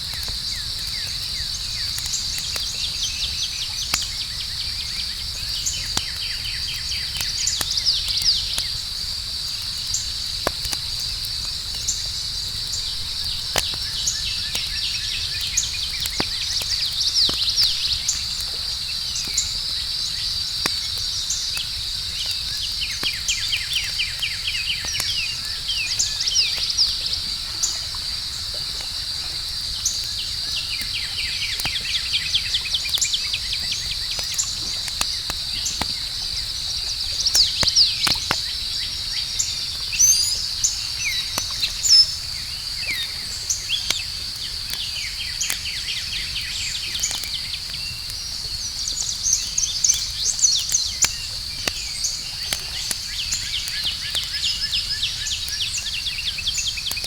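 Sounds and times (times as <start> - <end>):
campfire crackling and popping: 0.0 - 57.0
crickets chirring: 0.0 - 57.0.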